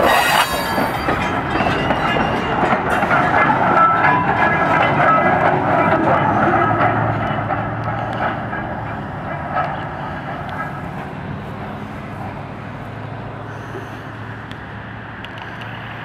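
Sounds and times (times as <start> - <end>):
diesel locomotive hum: 0.0 - 16.0
train wheels rumbling on rails: 0.0 - 16.0.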